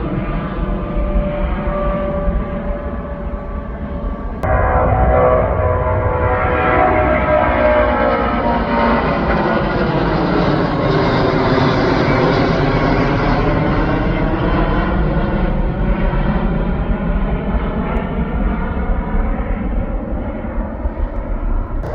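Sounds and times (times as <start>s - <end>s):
jet engines passing by: 0.0s - 21.9s.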